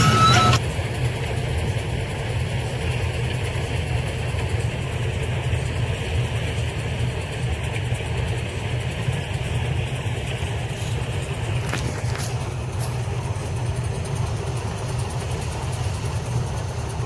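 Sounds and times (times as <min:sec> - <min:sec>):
farm machinery engine running: 0:00.0 - 0:17.0.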